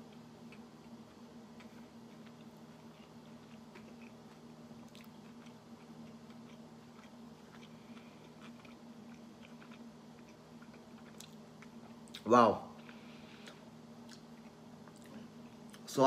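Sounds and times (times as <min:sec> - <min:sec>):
person chewing: 0:00.0 - 0:15.9.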